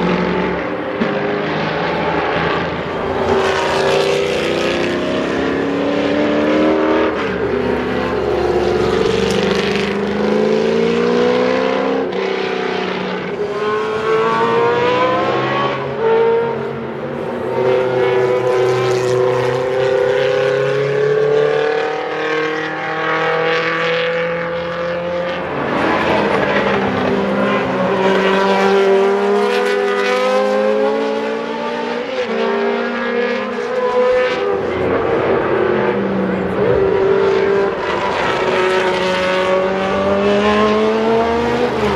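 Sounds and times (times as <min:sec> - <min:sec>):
race car engines revving: 0:00.0 - 0:41.9.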